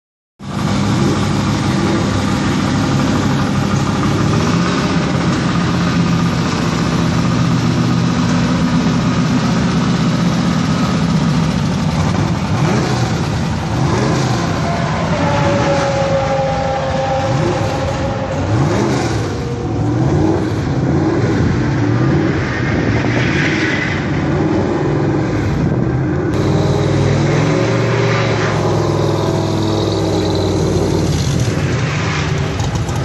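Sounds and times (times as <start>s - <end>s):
car engine idling loudly: 0.4s - 23.0s, 25.0s - 33.0s.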